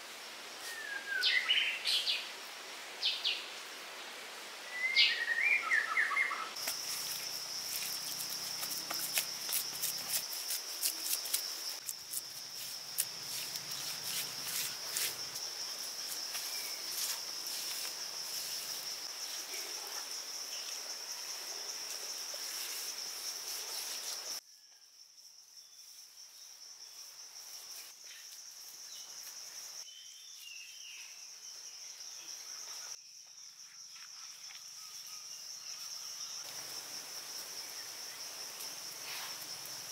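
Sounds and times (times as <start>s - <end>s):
insects trilling: 4.6s - 39.9s.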